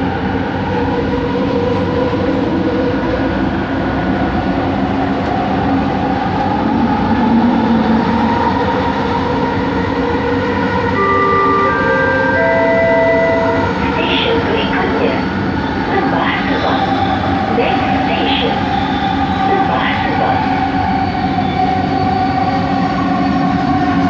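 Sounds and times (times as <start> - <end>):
train rumble with tonal whine: 0.0 - 24.0.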